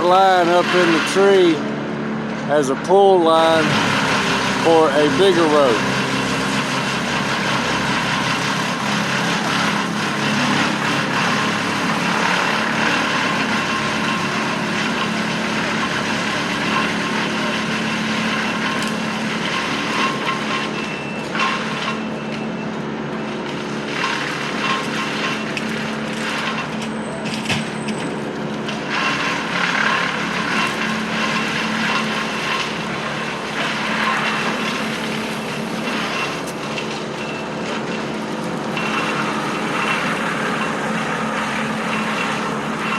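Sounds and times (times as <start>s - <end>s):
heavy engine running: 0.0s - 42.9s.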